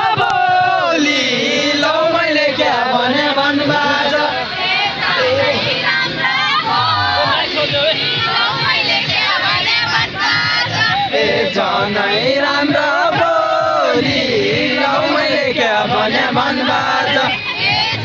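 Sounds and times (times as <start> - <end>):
crowd singing and chanting: 0.0 - 18.0.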